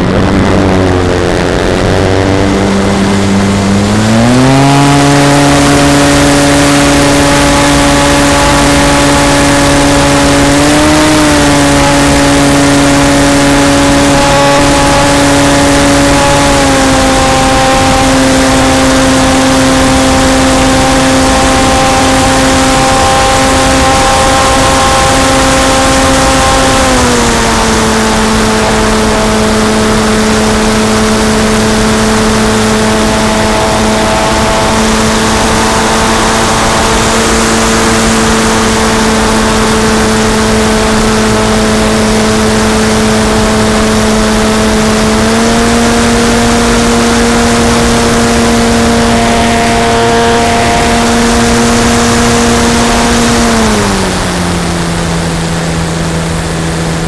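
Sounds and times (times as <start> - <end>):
model airplane motor drone: 0.0 - 57.0
wind rushing over microphone: 0.0 - 57.0.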